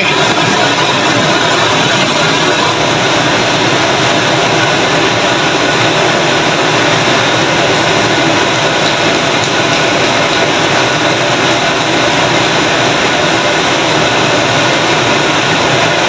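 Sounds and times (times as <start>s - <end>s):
gas burner roar: 0.0s - 16.0s
oil sizzling: 0.0s - 16.0s.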